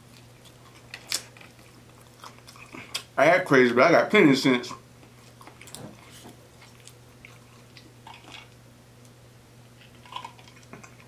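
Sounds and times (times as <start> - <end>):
chewing with wet mouth clicks: 0.0 - 3.2, 5.0 - 11.0
low steady hum: 0.0 - 11.0.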